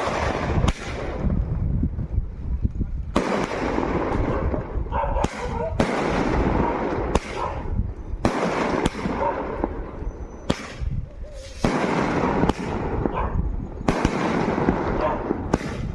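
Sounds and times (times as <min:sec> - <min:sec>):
firecracker bangs: 0:00.0 - 0:01.6, 0:03.1 - 0:15.9
firecrackers crackling: 0:00.0 - 0:15.9.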